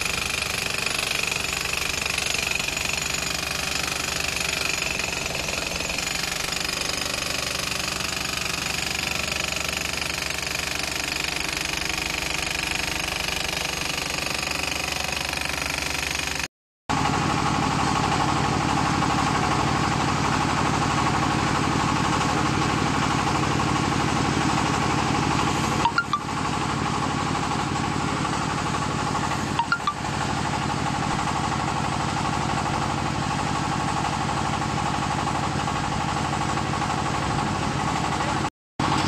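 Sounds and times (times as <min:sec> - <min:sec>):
drill rig engine running: 0:00.0 - 0:39.0.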